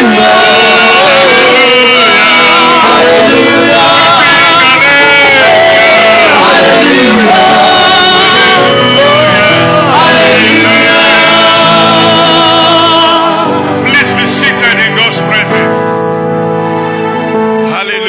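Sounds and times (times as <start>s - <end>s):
worship singing: 0.0s - 16.2s
band accompaniment: 0.0s - 18.0s.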